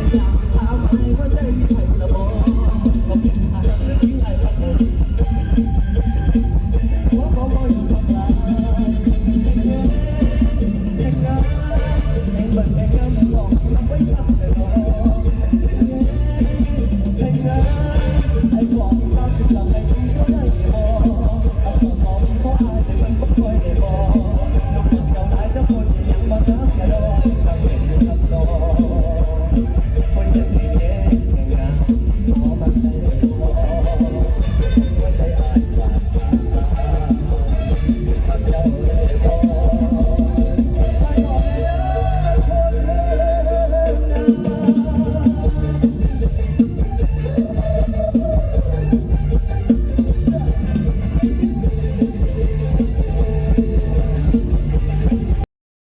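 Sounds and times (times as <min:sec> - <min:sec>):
bass and guitar: 0:00.0 - 0:55.5
drum kit beat: 0:00.0 - 0:55.5.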